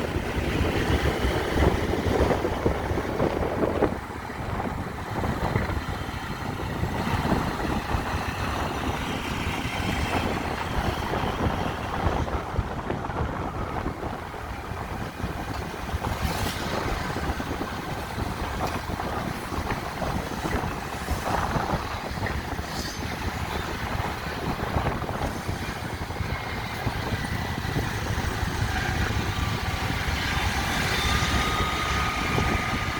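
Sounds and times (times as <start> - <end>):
street traffic rumble: 0.0 - 32.9
wind buffeting microphone: 0.0 - 32.9.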